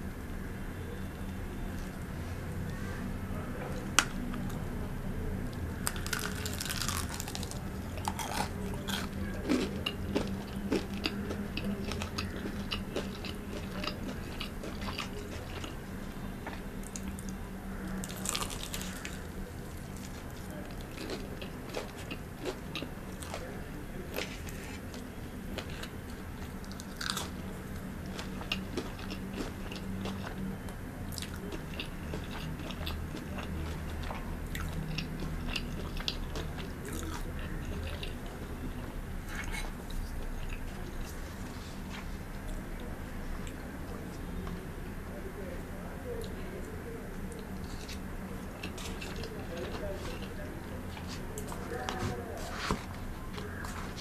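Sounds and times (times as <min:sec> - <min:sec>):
biting and chewing crunchy food: 0:05.5 - 0:42.6, 0:47.1 - 0:54.0.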